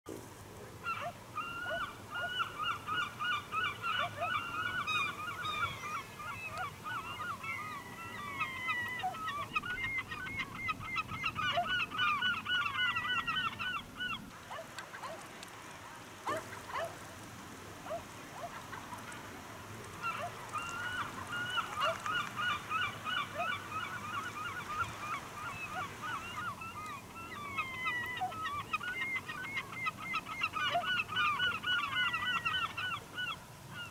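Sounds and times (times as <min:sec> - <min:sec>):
flock of birds calling: 0:00.8 - 0:17.2, 0:17.8 - 0:33.9.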